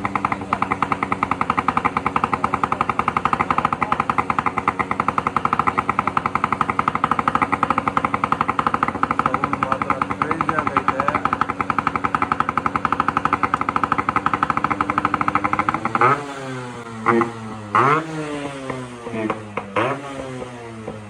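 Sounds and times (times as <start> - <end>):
two-stroke motorcycle revving: 0.0 - 21.0.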